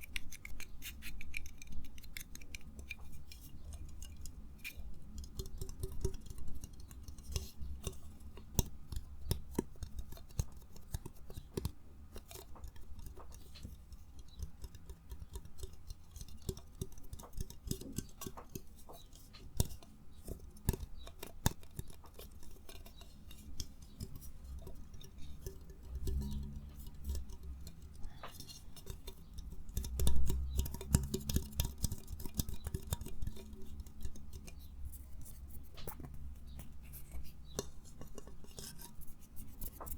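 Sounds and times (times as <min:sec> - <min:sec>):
small objects clicking and tapping: 0:00.0 - 0:39.9
soft handling rumble: 0:00.6 - 0:39.9.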